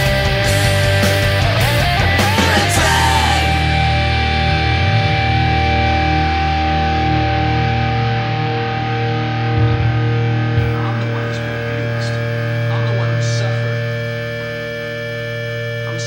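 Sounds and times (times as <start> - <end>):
distorted electric guitar chord: 0.0 - 16.0.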